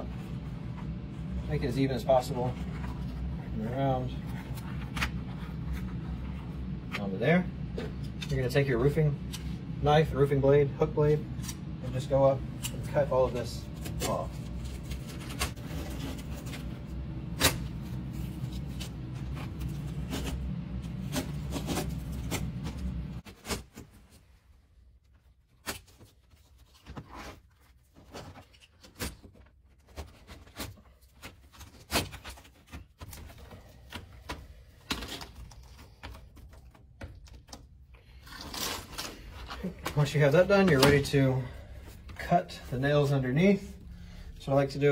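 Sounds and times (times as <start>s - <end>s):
steady low hum: 0.0s - 25.5s, 30.1s - 44.9s.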